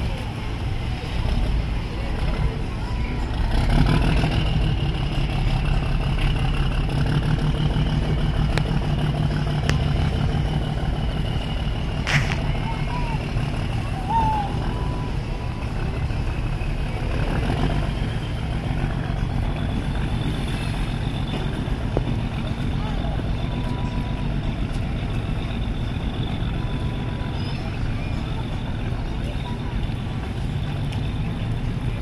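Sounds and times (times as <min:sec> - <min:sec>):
boat engines rumbling: 0:00.0 - 0:32.0.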